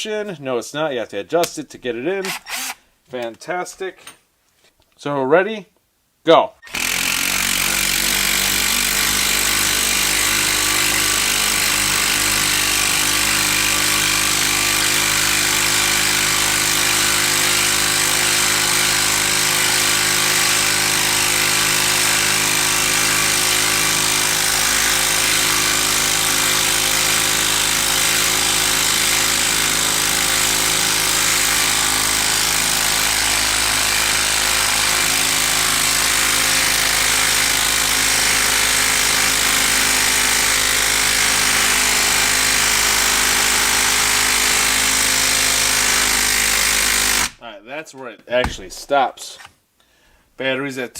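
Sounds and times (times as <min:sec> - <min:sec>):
impact driver hammering: 0:02.3 - 0:02.8, 0:06.7 - 0:47.4.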